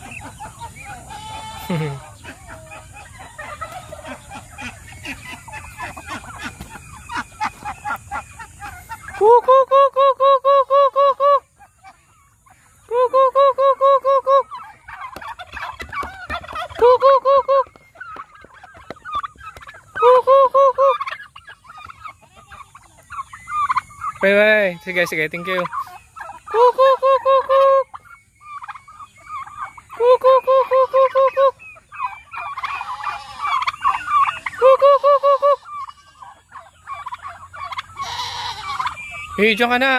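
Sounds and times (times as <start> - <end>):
bird calls and clucks: 0.0 - 39.9
turkeys gobbling: 0.0 - 39.9.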